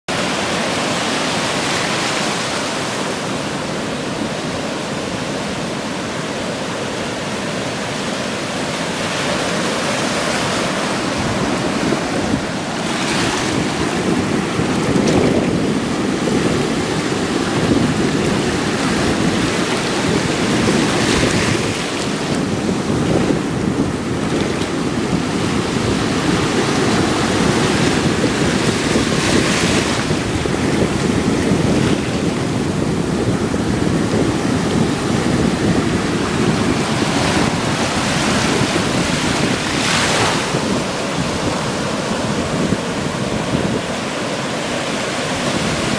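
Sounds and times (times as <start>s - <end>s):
waves breaking: 0.1s - 45.9s.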